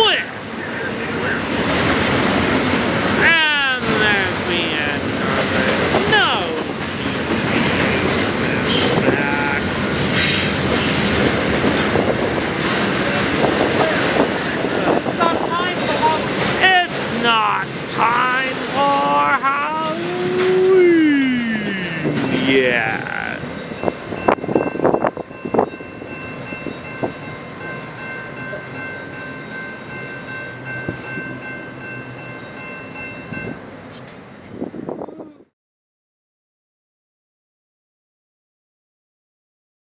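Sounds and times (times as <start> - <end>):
train wheels clicking and rumbling: 0.4 - 35.1.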